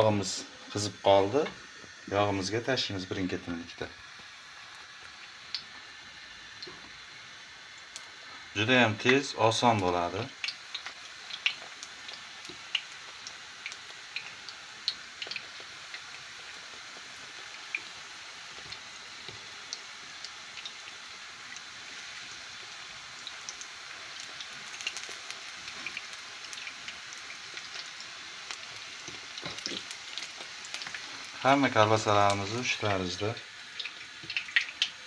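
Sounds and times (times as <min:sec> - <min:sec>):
fritters sizzling in oil: 0:00.0 - 0:35.0.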